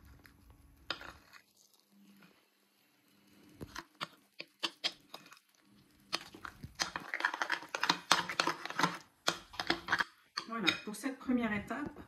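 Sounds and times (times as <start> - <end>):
spoon stirring thick paste: 0.0 - 2.5, 3.3 - 11.1.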